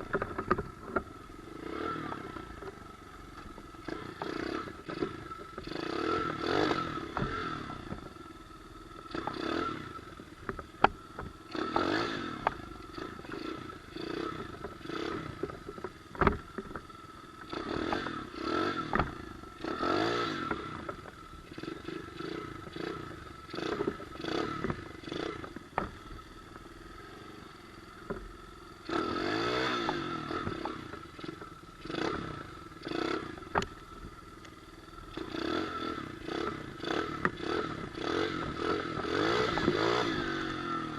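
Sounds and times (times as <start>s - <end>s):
motorbike engine revving: 0.0s - 34.2s, 34.8s - 40.9s.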